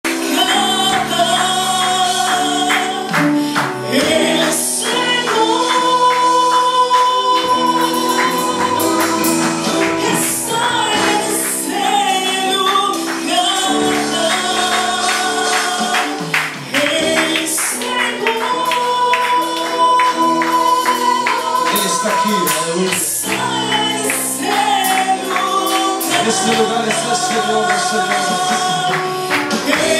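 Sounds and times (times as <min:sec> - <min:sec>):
instrumental accompaniment: 0:00.0 - 0:29.9
group singing worship song: 0:00.1 - 0:29.9.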